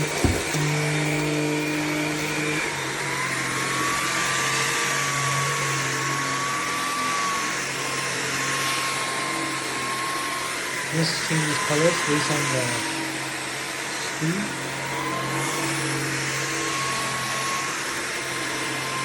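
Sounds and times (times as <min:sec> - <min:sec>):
vacuum motor whine: 0:00.0 - 0:19.0.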